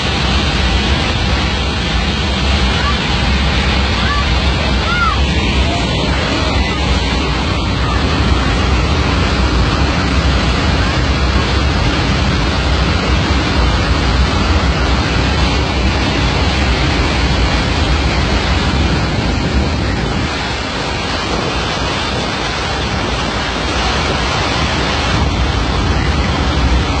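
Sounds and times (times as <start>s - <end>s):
rush of air roaring: 0.0s - 27.0s.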